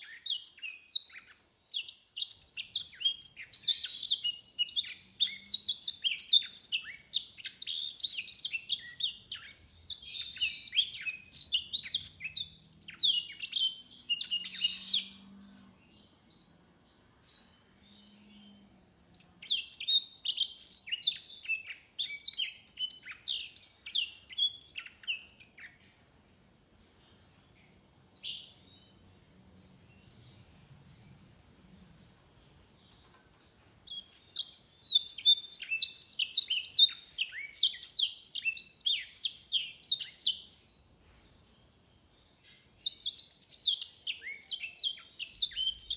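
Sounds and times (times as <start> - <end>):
bird trilling song: 0.0 - 45.9.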